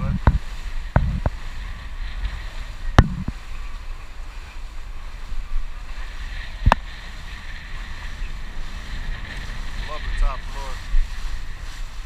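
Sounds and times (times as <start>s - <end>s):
water wash: 0.0s - 12.0s
wind rumbling on microphone: 0.0s - 12.0s.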